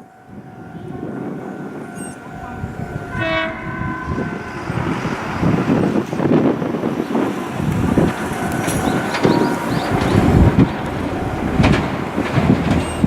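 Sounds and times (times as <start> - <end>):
train horn blast: 0.0 - 6.4, 7.6 - 13.0
train rumble and wheel noise: 0.0 - 13.0.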